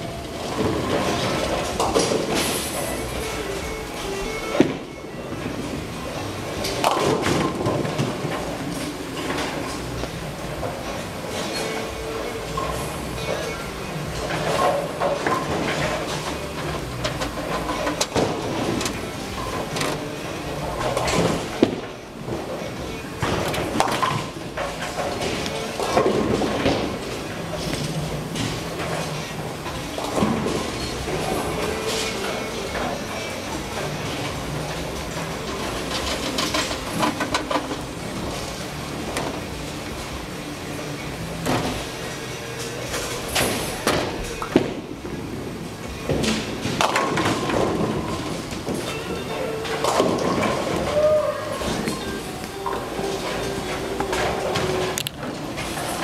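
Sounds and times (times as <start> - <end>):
bowling balls rumbling down lanes: 0.0 - 56.0
pinsetter machine humming: 0.0 - 56.0.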